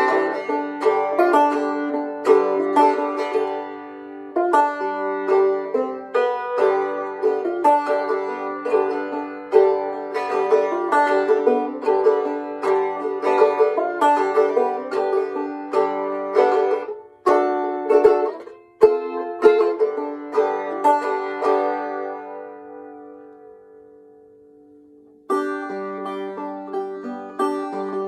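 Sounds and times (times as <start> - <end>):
banjo picking: 0.0 - 28.0.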